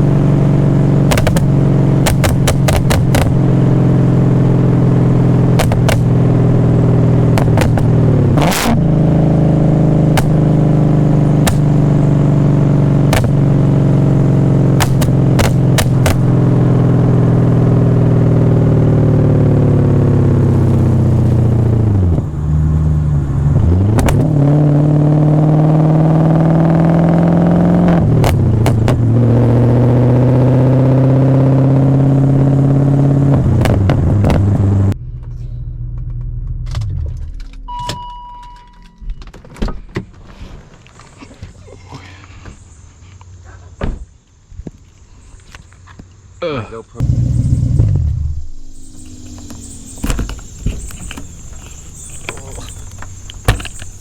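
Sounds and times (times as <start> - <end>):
car engine drone while driving: 0.0 - 40.1, 46.2 - 54.0.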